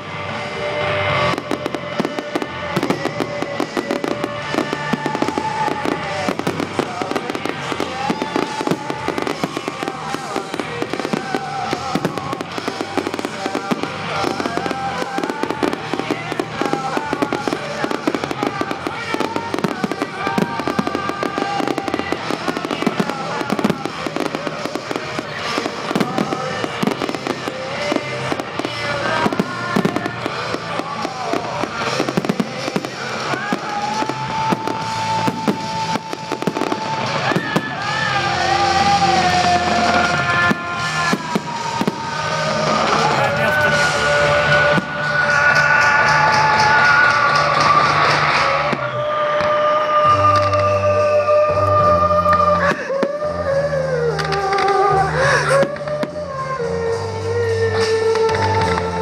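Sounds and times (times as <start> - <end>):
fireworks bangs and crackles: 0.0 - 59.0
music: 0.0 - 59.0.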